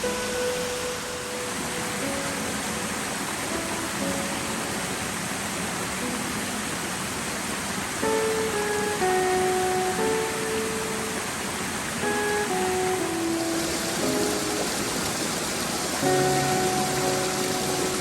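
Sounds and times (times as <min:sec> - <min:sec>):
soft background music: 0:00.0 - 0:18.0
waterfall rushing: 0:00.0 - 0:18.0.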